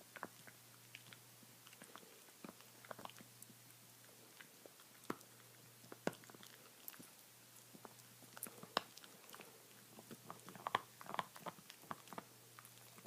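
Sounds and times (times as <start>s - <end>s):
pet gnawing on a bone: 0.0s - 13.0s.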